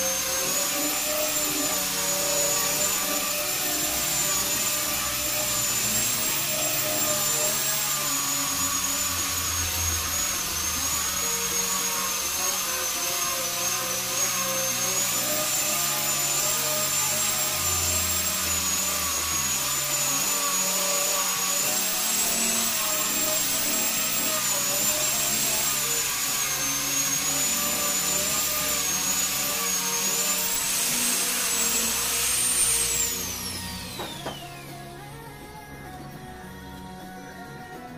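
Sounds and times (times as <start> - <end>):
angle grinder sanding wood: 0.0 - 36.0.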